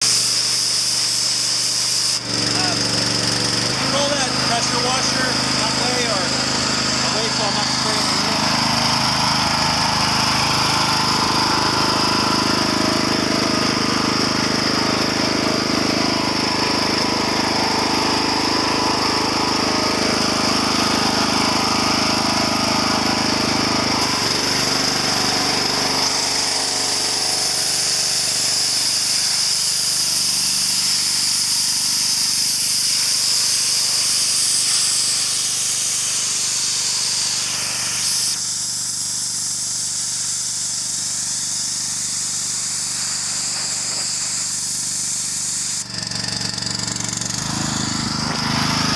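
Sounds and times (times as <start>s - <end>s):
high-pressure water spray hiss: 0.0s - 15.4s, 16.2s - 48.9s
pressure washer motor hum: 0.0s - 48.9s.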